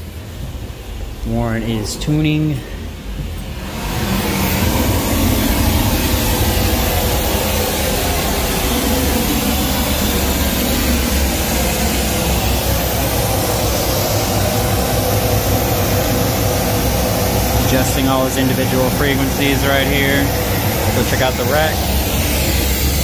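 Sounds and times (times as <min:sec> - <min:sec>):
pink noise hiss from speaker: 0:00.0 - 0:23.0.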